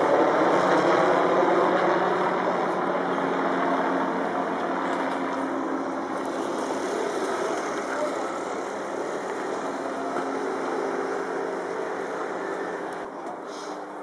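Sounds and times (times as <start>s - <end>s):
motor engine droning: 0.0s - 14.0s.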